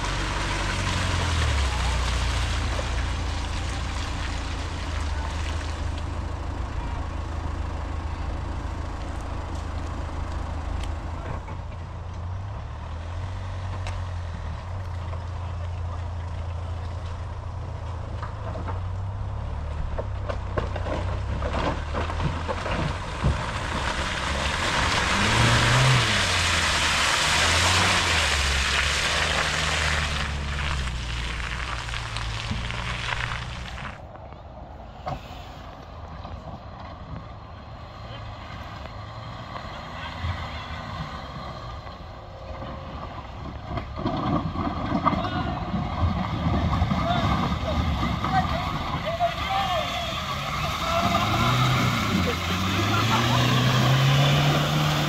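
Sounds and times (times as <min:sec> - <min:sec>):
engines revving in mud: 0:00.0 - 0:34.0, 0:37.5 - 0:55.0.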